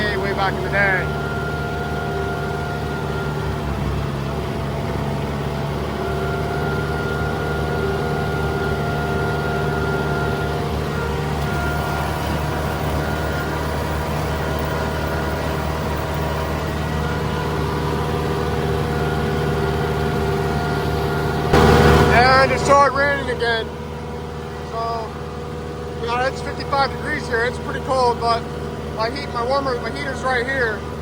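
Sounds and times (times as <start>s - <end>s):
steady whining tones: 0.0s - 31.0s
tractor engine and mower droning: 0.0s - 31.0s.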